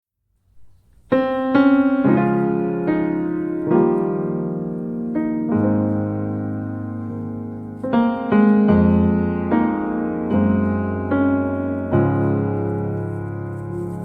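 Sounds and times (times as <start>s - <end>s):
slow gentle piano music: 0.2s - 14.0s.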